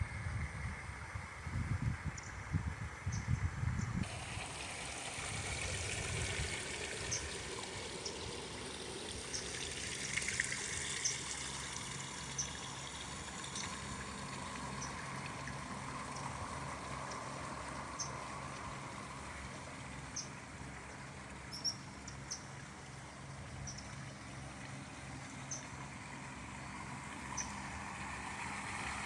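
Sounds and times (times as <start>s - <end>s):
water trickling: 3.1s - 29.0s.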